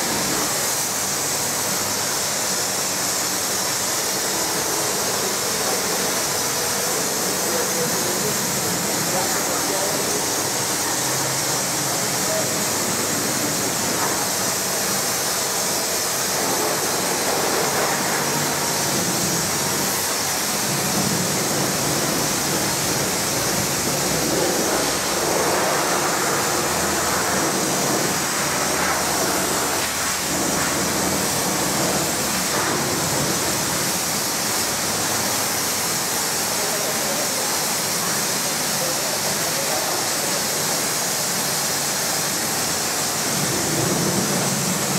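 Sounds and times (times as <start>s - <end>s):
water spraying from hose nozzle: 0.0s - 44.9s.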